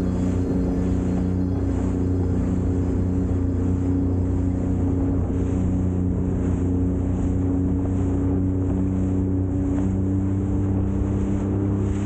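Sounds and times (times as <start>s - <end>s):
jet ski engine running: 0.0s - 12.0s
wind on microphone: 0.0s - 12.0s.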